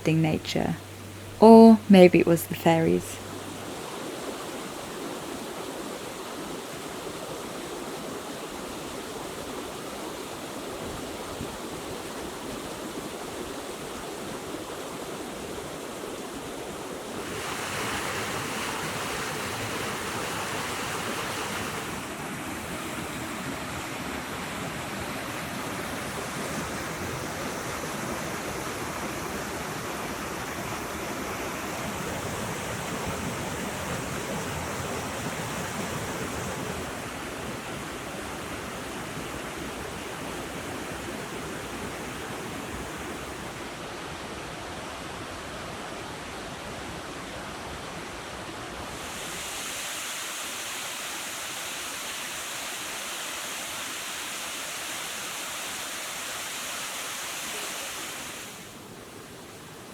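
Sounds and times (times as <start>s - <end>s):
stream water rushing: 2.6s - 59.9s.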